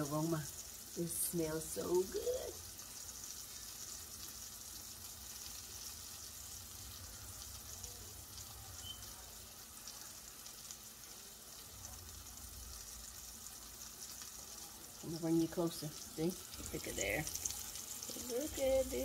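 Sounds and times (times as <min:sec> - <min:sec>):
patties sizzling in a skillet: 0:00.0 - 0:19.0.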